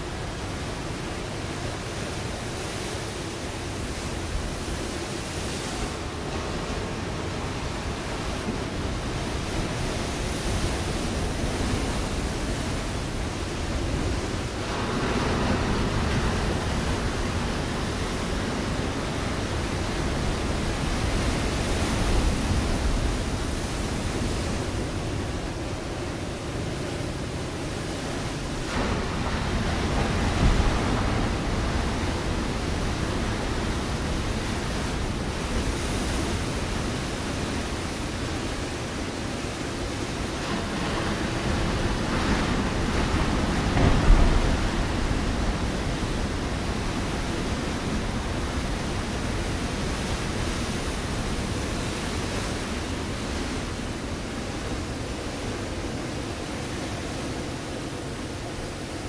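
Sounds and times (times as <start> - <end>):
ocean waves crashing on rocks: 0.0 - 59.0.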